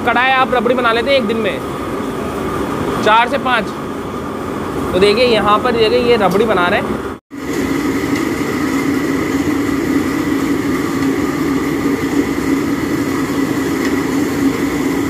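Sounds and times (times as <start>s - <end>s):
stoves roaring: 0.0s - 15.0s.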